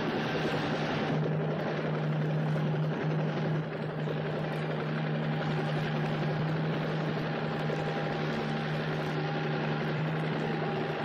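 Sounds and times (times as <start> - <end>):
helicopter engine and rotor hum: 0.0 - 11.0.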